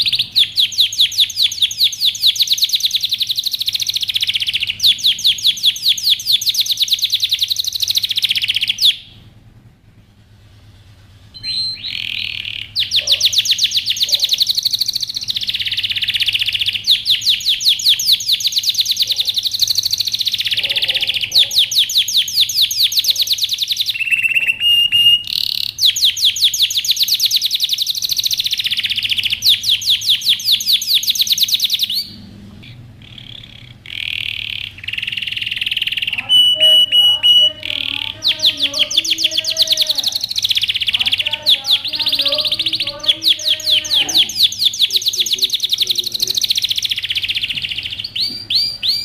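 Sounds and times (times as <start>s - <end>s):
canary singing trills: 0.0s - 9.2s, 11.3s - 49.0s.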